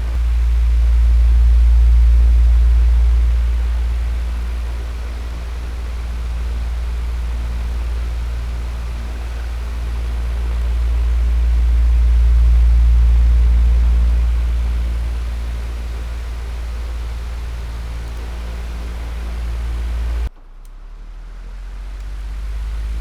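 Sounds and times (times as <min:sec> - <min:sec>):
electric fan running: 0:00.0 - 0:20.3, 0:21.8 - 0:23.0.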